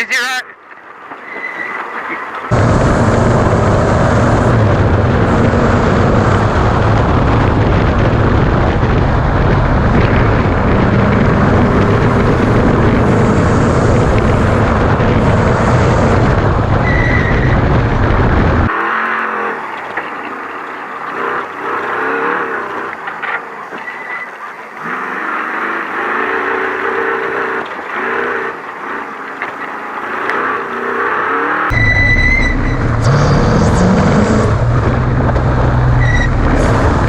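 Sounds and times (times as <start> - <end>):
truck engine and road noise: 0.0 - 37.0.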